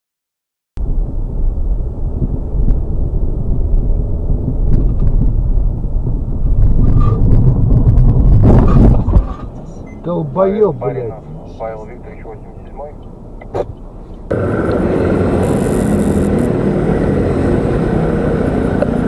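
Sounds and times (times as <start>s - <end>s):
car engine and road rumble: 0.8s - 19.0s.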